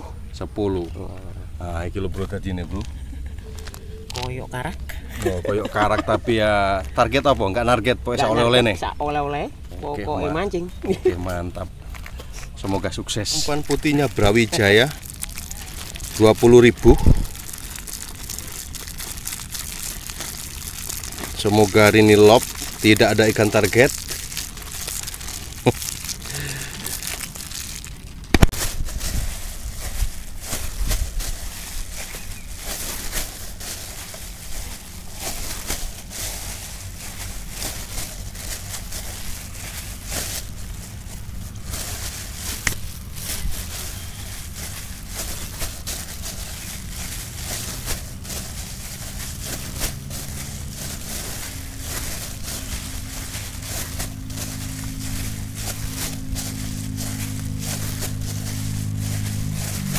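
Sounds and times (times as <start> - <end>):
plastic bag crinkling: 2.7 - 8.6, 11.0 - 59.9.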